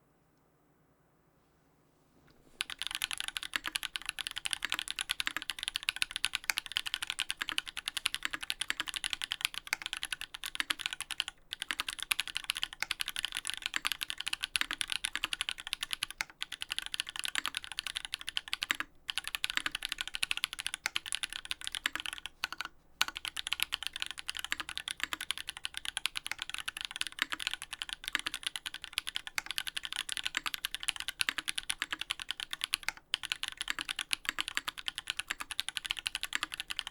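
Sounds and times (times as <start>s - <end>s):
mechanical keyboard typing: 2.6s - 36.9s.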